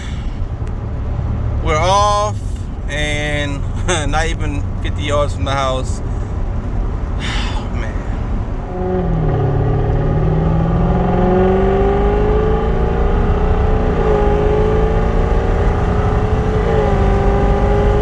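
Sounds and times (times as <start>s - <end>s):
car engine and exhaust accelerating: 0.0s - 18.0s
road rumble: 0.0s - 18.0s.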